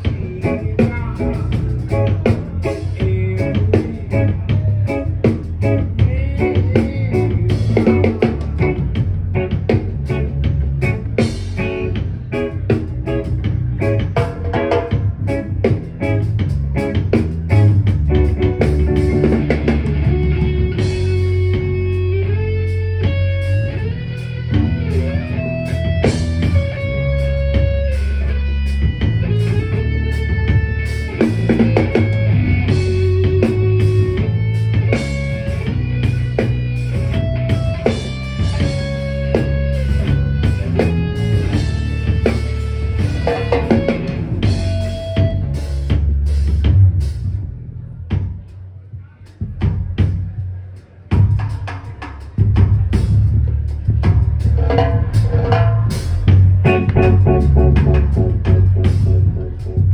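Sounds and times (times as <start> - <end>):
electric guitar sliding melody: 0.0 - 46.2, 56.5 - 59.9
bass guitar: 0.0 - 59.9
drum kit: 0.0 - 59.9.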